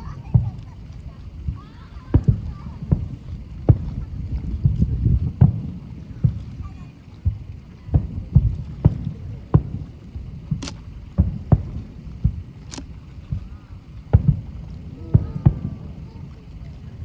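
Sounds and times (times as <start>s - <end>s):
fireworks booming: 0.0s - 17.0s
sharp firework cracks: 0.0s - 17.0s.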